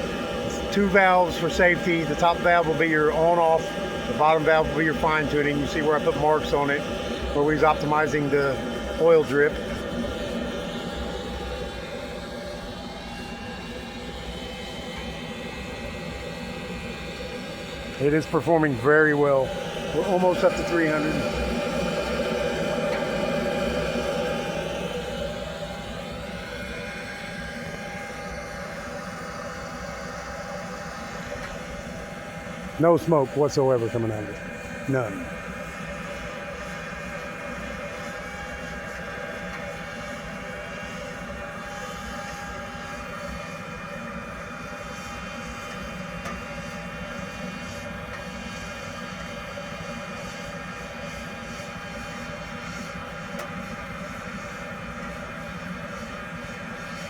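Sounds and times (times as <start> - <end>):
furnace blower air rush: 0.0 - 57.0.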